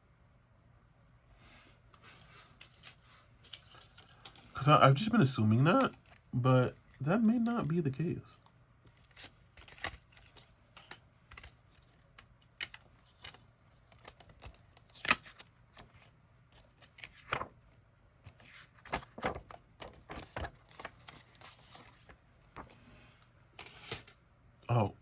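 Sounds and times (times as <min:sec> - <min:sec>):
plastic and card packaging handled: 0:02.0 - 0:06.3, 0:07.3 - 0:17.6, 0:18.2 - 0:23.9.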